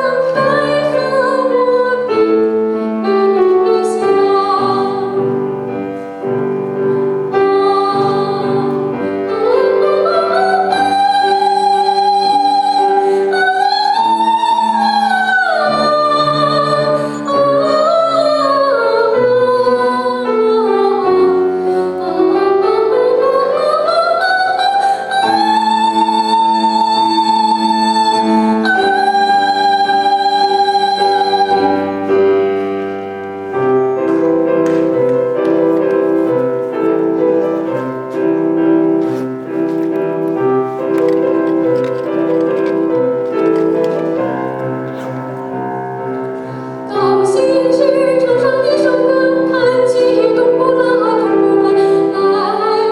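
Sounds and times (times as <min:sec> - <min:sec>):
piano accompaniment: 0:00.0 - 0:52.9.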